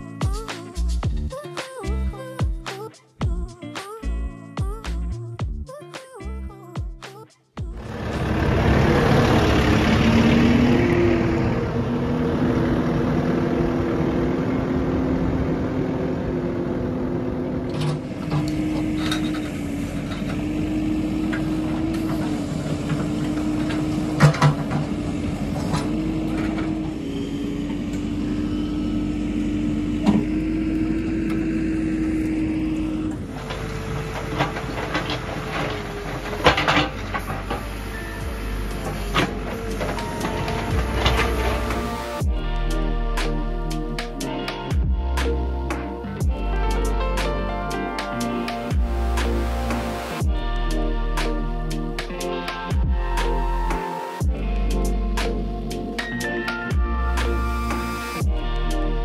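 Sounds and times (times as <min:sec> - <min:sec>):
diesel engine running under load: 0:07.7 - 0:59.0.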